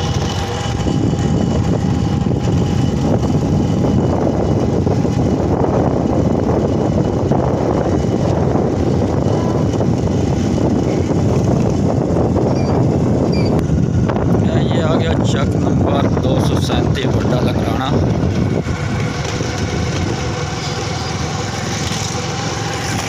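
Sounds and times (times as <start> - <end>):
vehicle on dirt road: 0.0 - 23.0.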